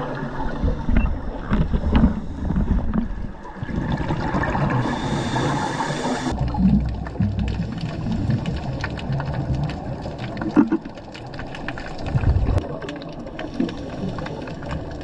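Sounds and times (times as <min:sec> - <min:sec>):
regulator exhaust bubbles gurgling: 0:00.0 - 0:15.0
underwater rumble: 0:00.0 - 0:15.0.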